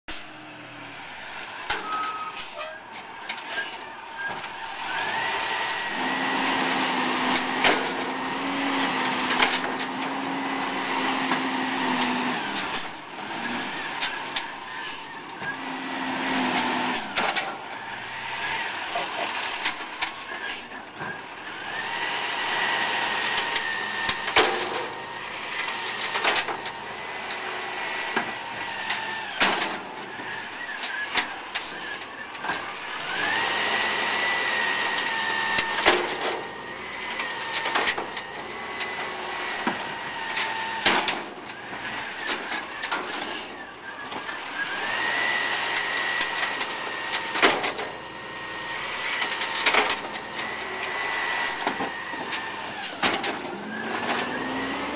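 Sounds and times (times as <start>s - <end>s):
garbage truck engine whining: 0.1s - 54.9s.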